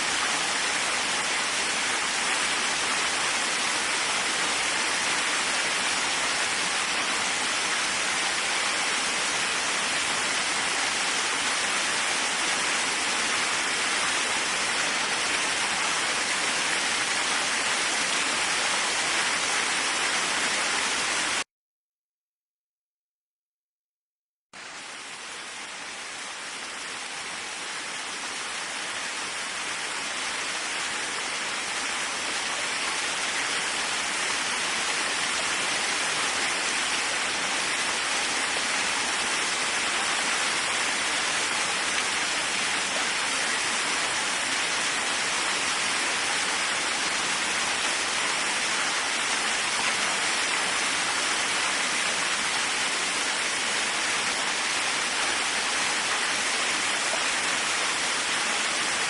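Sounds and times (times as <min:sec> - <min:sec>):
waterfall rushing: 0:00.0 - 0:21.4, 0:24.6 - 0:59.0.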